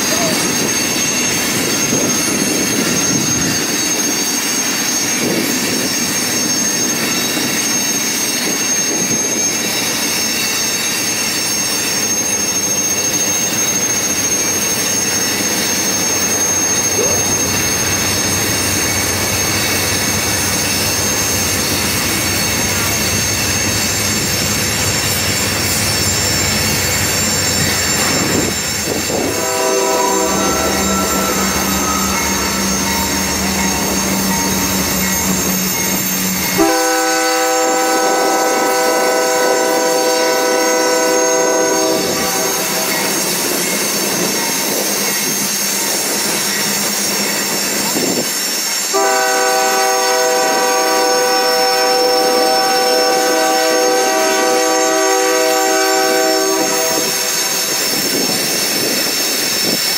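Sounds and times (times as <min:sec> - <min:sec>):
steel wheels squealing: 0:00.0 - 0:59.9
train cars rolling on rails: 0:00.0 - 0:59.9.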